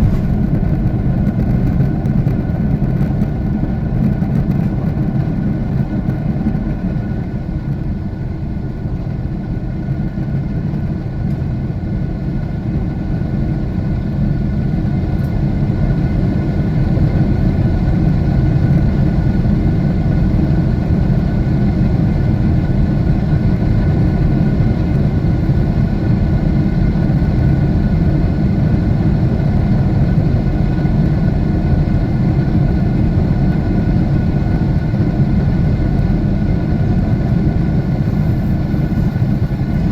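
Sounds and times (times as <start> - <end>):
jet engine rumble inside cabin: 0.0 - 39.9.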